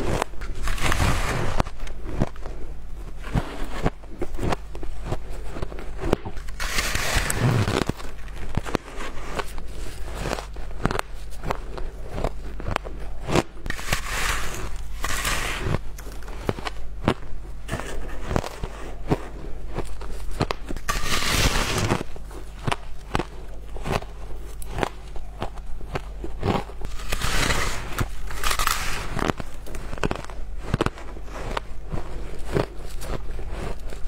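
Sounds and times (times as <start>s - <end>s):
shaved ice crunching when chewed: 0.0s - 34.0s.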